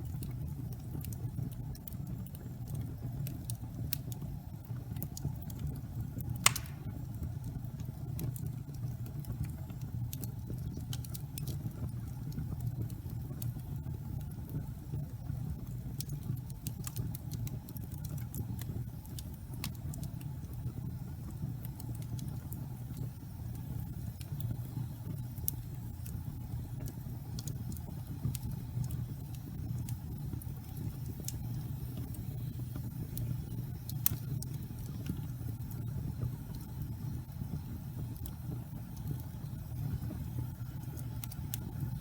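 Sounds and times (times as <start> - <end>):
fire crackling and popping: 0.0 - 42.0.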